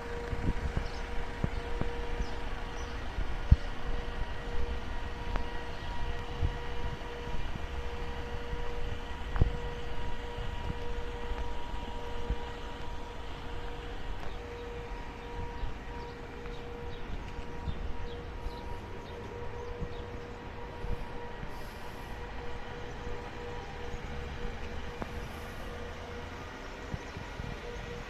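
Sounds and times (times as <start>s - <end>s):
refrigeration unit humming with whine: 0.0s - 28.0s.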